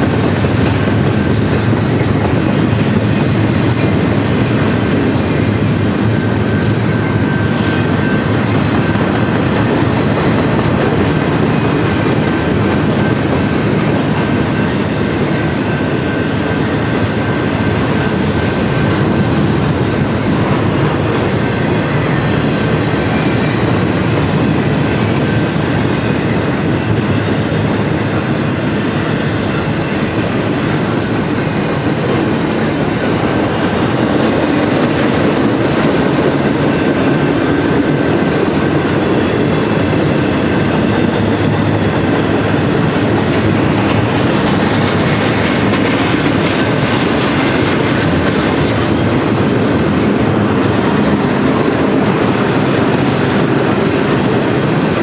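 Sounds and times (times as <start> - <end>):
steel train wheels on rails: 0.0 - 55.0.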